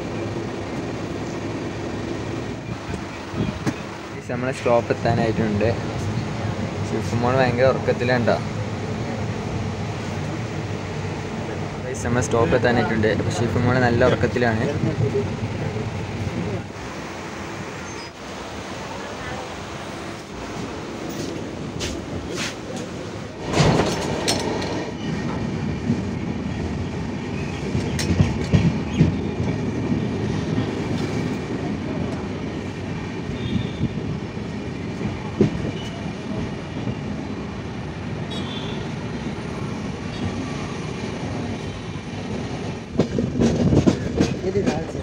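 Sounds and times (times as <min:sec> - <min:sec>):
train wheels rumbling on rails: 0:00.0 - 0:45.0
rail clicks: 0:00.1 - 0:16.7, 0:20.1 - 0:37.2, 0:38.8 - 0:45.0.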